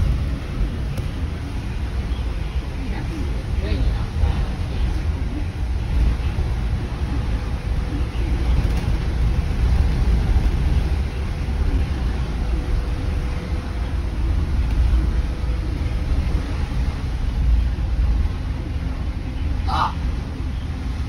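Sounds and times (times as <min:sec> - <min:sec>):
bus engine rumble: 0:00.0 - 0:21.0
road noise hiss: 0:00.0 - 0:21.0.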